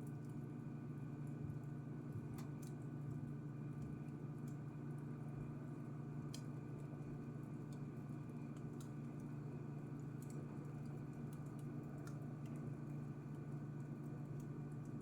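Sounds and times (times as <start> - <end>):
wood fire crackling: 1.3 - 15.0.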